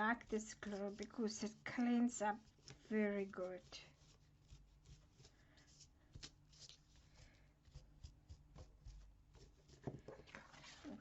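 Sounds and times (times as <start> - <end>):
paper and card rustling: 0.0 - 11.0.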